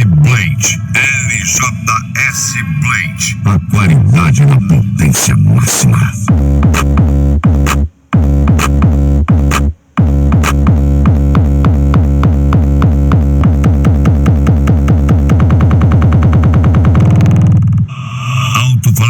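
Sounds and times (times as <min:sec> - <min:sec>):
electronic dance music with bass: 0:00.0 - 0:19.0.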